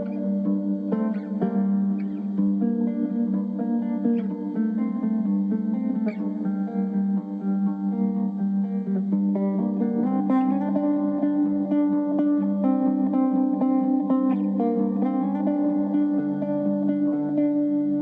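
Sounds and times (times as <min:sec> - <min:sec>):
guitar music: 0:00.0 - 0:18.0.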